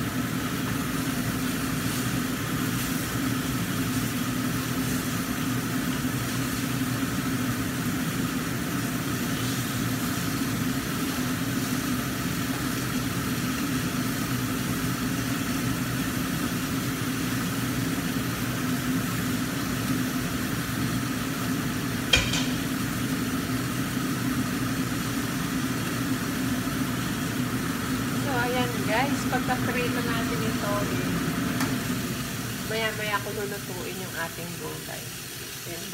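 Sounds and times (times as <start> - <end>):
fish sizzling in a wok: 0.0 - 35.9
range hood fan hum: 0.0 - 35.9.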